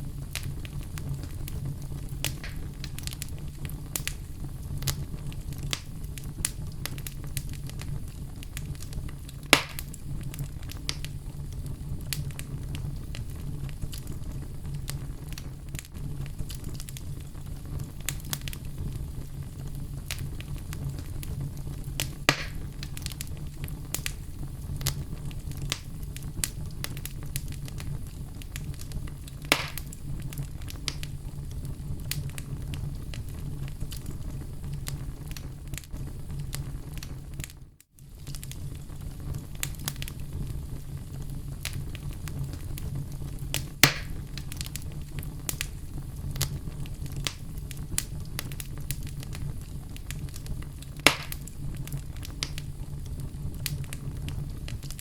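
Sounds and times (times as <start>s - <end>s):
fire burning with crackles: 0.0s - 55.0s
loud pops of burning logs: 0.1s - 55.0s.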